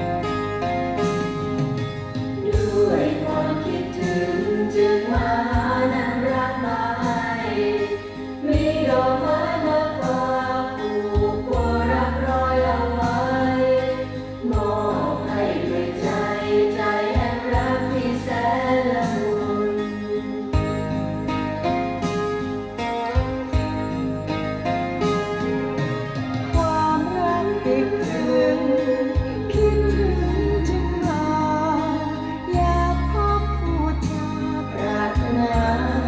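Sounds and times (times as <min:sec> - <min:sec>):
song through loudspeakers: 0:00.0 - 0:36.0.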